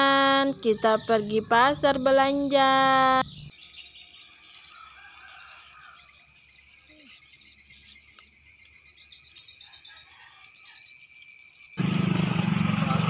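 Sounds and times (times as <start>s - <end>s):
insects chirring: 0.0s - 11.8s
high bird chirps: 0.1s - 11.8s.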